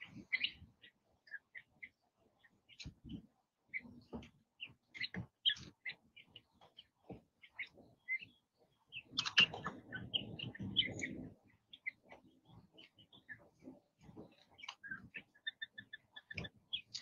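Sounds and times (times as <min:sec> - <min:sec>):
young quail chirping: 0:00.0 - 0:17.0
birds rustling and scuffling: 0:02.5 - 0:17.0.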